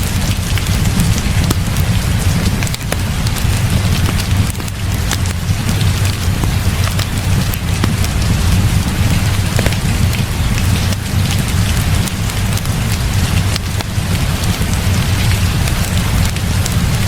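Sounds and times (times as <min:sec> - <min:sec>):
heavy rain falling: 0:00.0 - 0:17.0
low rumble: 0:00.0 - 0:17.0
wood fire crackling: 0:00.0 - 0:17.0.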